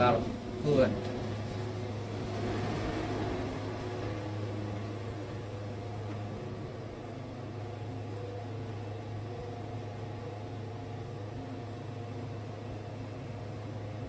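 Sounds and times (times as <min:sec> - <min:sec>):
band sawmill droning: 0:00.0 - 0:14.0.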